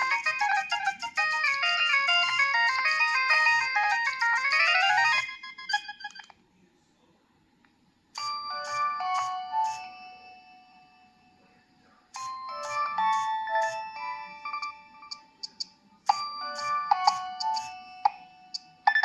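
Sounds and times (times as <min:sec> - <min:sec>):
phone ringtone melody: 0:00.0 - 0:06.3, 0:08.2 - 0:11.4, 0:12.2 - 0:19.0.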